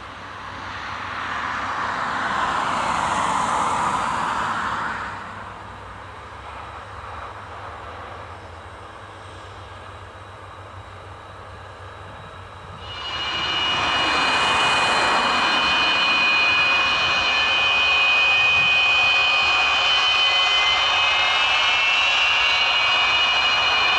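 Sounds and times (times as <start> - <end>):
jet engines roaring on takeoff: 0.0 - 23.9.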